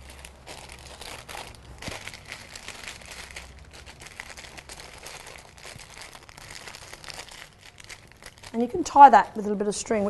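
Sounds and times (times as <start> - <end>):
paper wrapping crinkling: 0.0 - 9.0.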